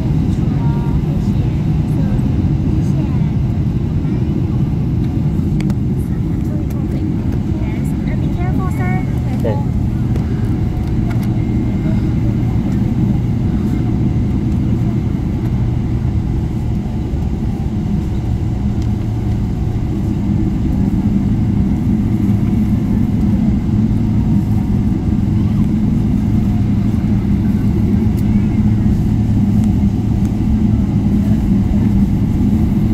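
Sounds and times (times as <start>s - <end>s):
jet engines rumbling: 0.0s - 32.9s
low steady hum: 0.0s - 32.9s.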